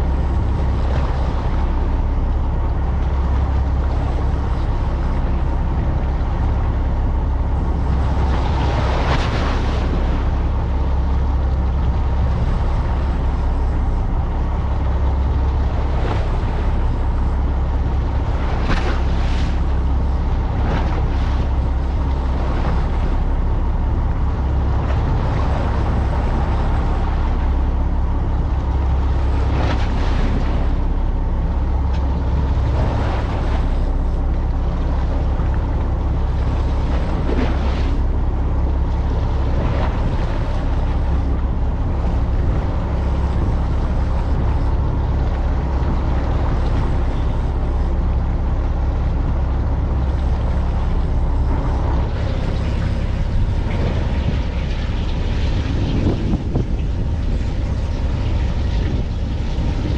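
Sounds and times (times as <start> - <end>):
boat engine humming: 0.0 - 59.9
rushing water: 0.0 - 59.9
wind noise: 0.0 - 59.9.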